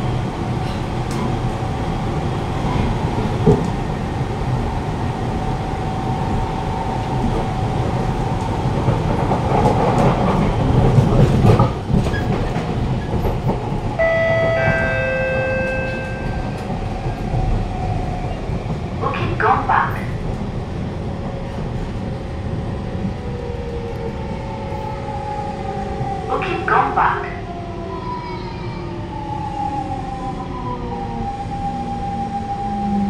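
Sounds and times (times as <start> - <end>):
train rumbling and rattling: 0.0 - 33.0.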